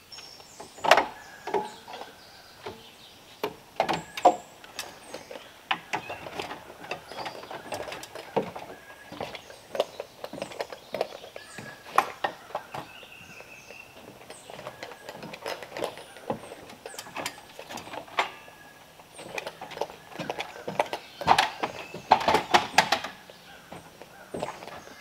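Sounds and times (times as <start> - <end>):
birds chirping: 0.0 - 25.0
footsteps on wooden deck: 0.2 - 25.0
metal ladder knocks and clanks: 0.6 - 13.3, 13.9 - 25.0.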